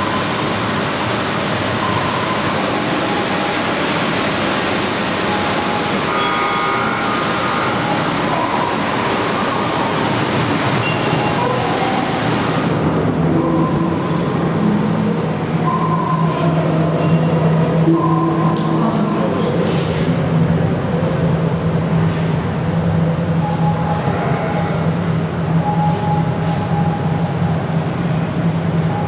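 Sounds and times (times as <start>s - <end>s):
tunnel rushing noise: 0.0s - 29.0s.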